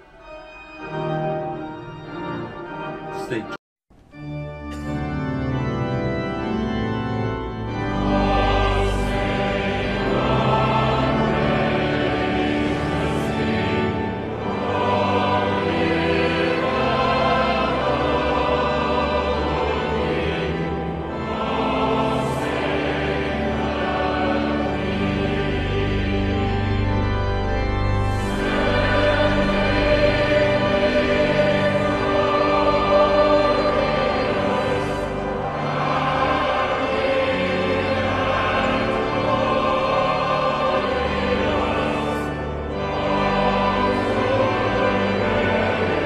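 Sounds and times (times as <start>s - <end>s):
pipe organ: 0.0s - 46.0s
choir singing: 6.9s - 46.0s.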